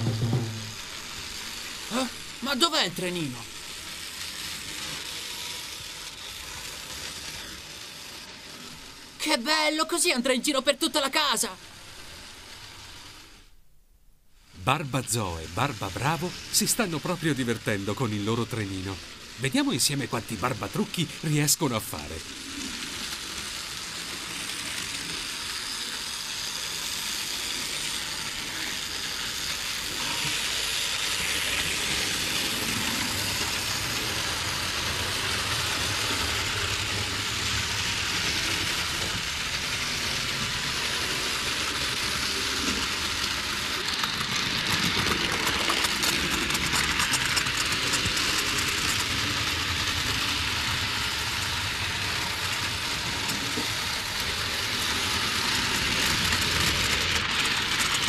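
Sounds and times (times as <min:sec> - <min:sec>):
toy steam train hissing: 0:00.0 - 0:13.6, 0:14.4 - 0:58.0.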